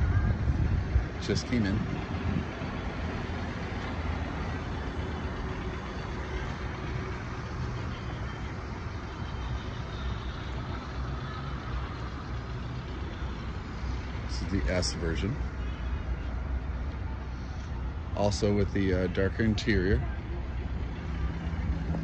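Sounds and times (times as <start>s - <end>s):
low outdoor background rumble: 0.0s - 22.0s.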